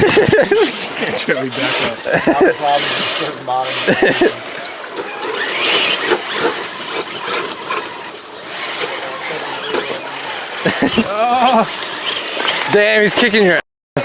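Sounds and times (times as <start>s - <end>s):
rc truck whirring and clicking: 0.0s - 13.6s.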